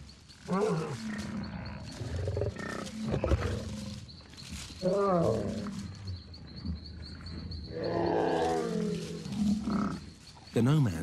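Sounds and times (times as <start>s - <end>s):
lions snarling and growling: 0.5s - 4.0s, 4.8s - 10.1s.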